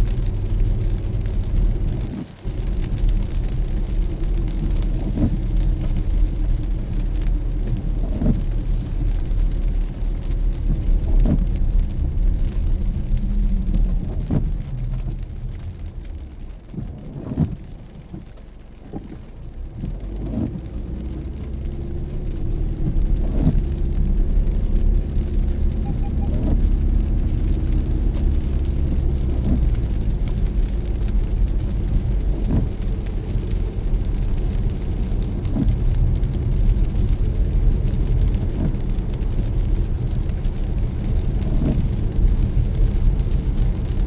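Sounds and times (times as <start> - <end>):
road and engine rumble: 0.0 - 44.0
tire swish on wet road: 0.0 - 44.0.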